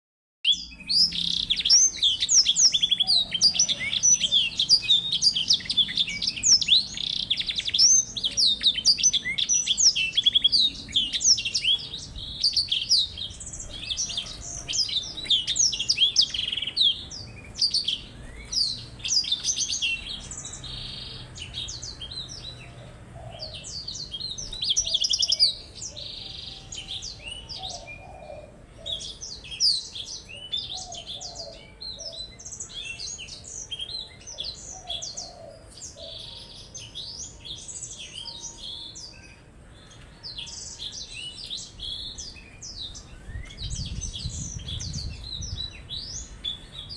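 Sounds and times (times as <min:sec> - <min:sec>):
songbirds singing: 0:00.4 - 0:46.9.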